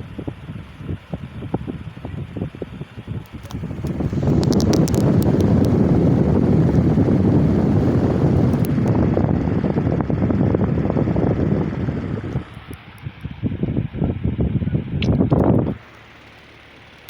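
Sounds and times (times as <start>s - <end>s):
fan wind noise on microphone: 0.0s - 17.0s.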